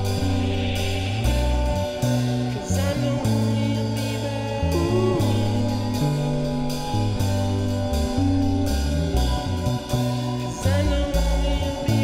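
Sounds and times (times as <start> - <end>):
man singing: 0.0 - 8.6, 10.3 - 12.0
bass line: 0.0 - 12.0
drum kit with cymbals: 0.0 - 12.0
electric guitar: 0.0 - 12.0.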